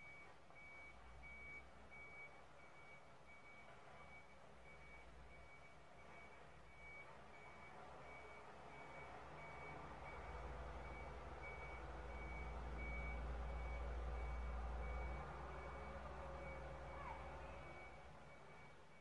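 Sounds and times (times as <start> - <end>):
diesel engine rumble: 0.0 - 19.0
reversing alarm beeps: 0.0 - 19.0.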